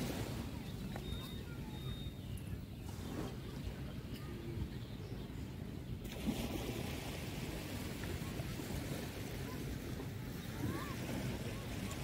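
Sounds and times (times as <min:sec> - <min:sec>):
small waves lapping on beach: 0:00.0 - 0:12.0.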